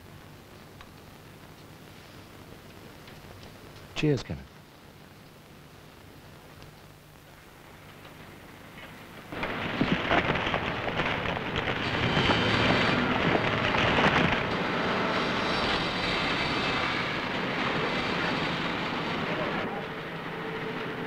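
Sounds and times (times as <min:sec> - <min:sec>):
low machinery hum: 0:00.0 - 0:21.0.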